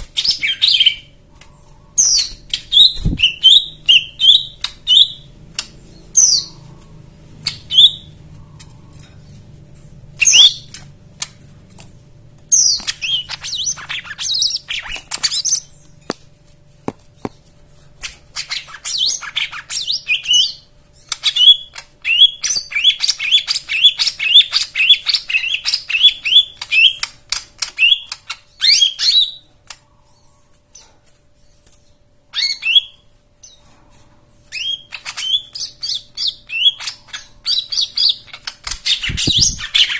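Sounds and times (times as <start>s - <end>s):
bird singing varied song: 0.0s - 11.3s, 12.5s - 16.1s, 17.2s - 33.6s, 34.4s - 39.9s.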